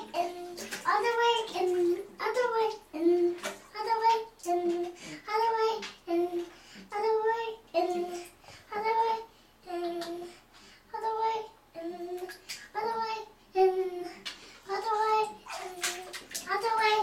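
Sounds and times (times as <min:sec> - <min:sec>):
young child singing: 0:00.0 - 0:17.0.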